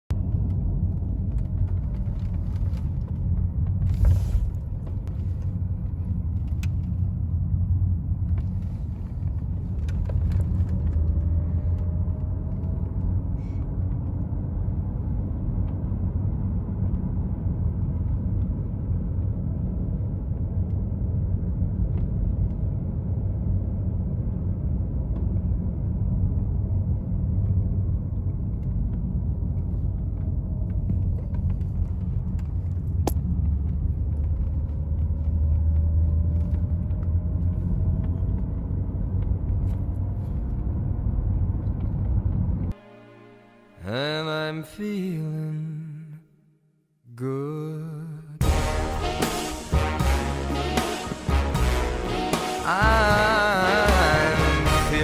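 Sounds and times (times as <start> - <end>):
car engine and road rumble: 0.1 - 45.9, 47.1 - 55.0.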